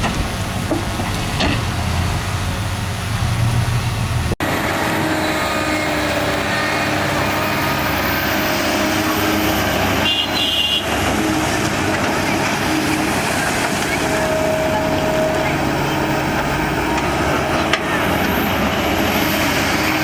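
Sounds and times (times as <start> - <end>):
heavy machine diesel engines: 0.0 - 20.0.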